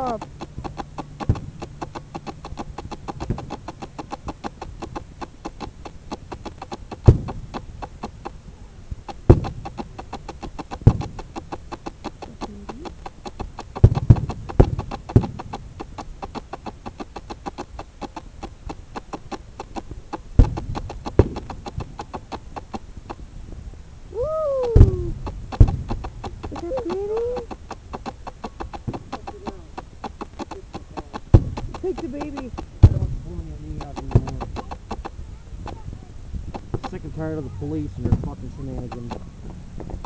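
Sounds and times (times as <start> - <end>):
fireworks booming: 0.0 - 8.2, 9.1 - 12.4, 13.1 - 17.1, 20.2 - 22.3, 24.6 - 37.2, 37.8 - 40.0
rapid clicking: 0.0 - 23.3, 24.6 - 40.0.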